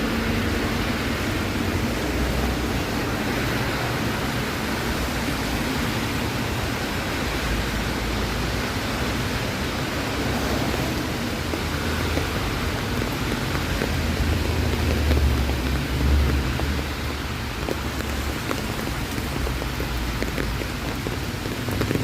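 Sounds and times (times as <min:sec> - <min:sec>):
low traffic rumble: 0:00.0 - 0:22.0
wet street hiss: 0:00.0 - 0:22.0.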